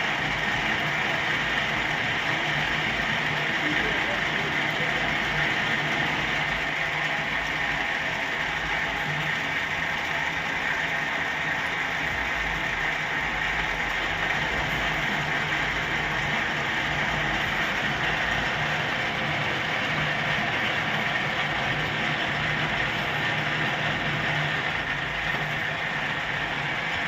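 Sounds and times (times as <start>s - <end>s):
metal lathe running: 0.0s - 27.0s.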